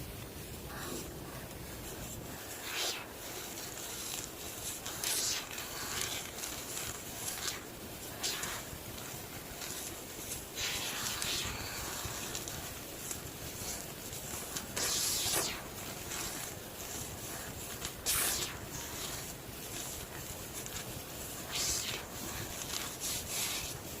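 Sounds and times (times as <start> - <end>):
quiet rustling: 0.0 - 24.0.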